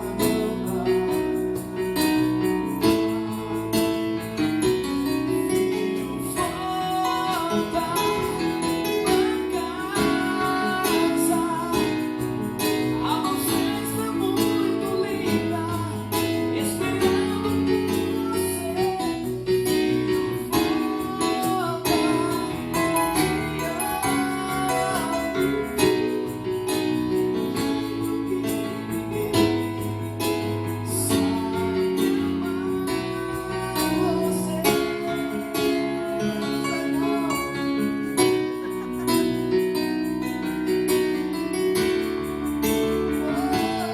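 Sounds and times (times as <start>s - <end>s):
gospel band playing: 0.0s - 43.9s
person singing: 0.0s - 43.9s
tambourine: 0.0s - 43.9s.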